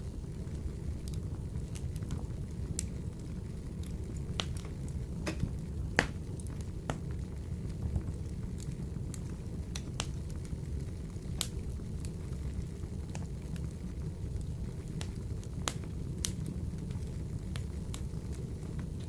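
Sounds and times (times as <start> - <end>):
fire crackles and pops: 0.0 - 19.0
wood fire burning in stove: 0.0 - 19.0.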